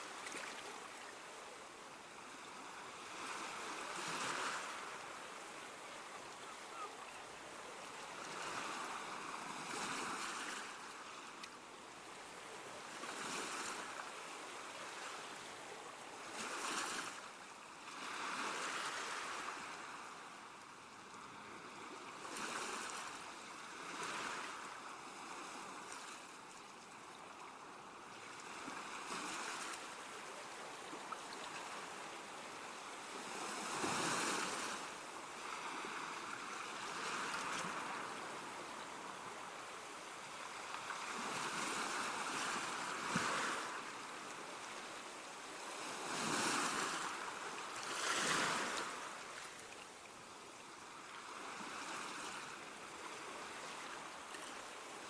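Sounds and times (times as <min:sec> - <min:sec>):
rushing water: 0:00.0 - 0:21.3, 0:22.1 - 0:55.0.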